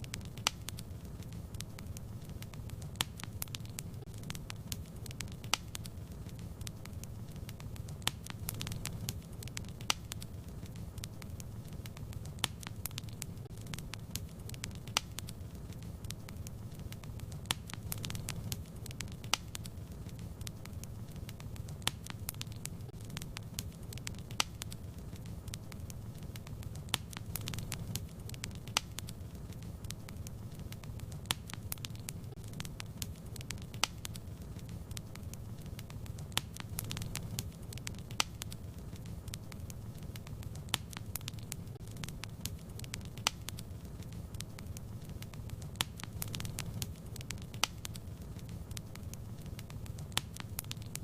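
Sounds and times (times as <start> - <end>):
fire crackling and popping: 0.0 - 51.0.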